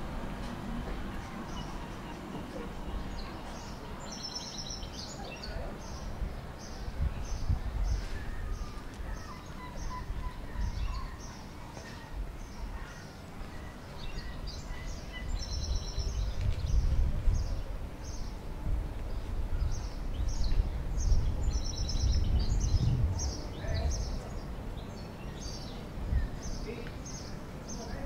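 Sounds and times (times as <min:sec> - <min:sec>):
small birds chirping: 0:00.5 - 0:28.0.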